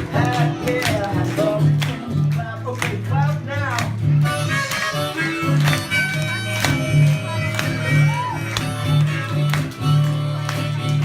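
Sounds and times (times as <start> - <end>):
children clapping along: 0.0 - 4.0, 4.6 - 11.0
upbeat instrumental music: 0.0 - 11.0.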